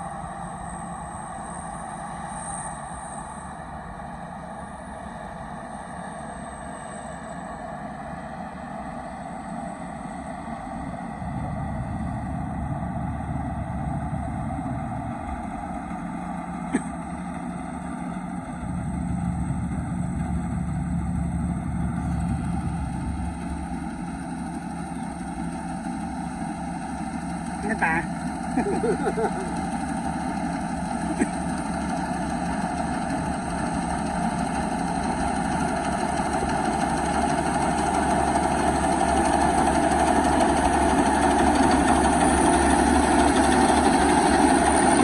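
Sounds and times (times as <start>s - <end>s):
combine harvester engine drone: 0.0s - 45.0s
deep rumble under load: 0.0s - 45.0s.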